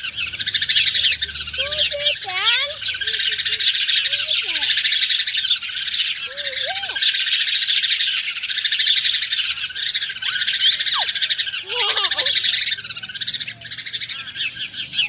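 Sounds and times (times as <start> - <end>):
low sliding bird calls: 0.0 - 14.7
birds chirping: 0.0 - 15.0.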